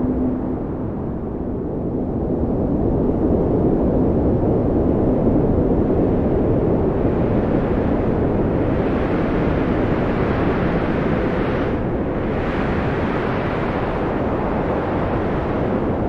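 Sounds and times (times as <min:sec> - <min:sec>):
strong wind rushing: 0:00.0 - 0:16.0.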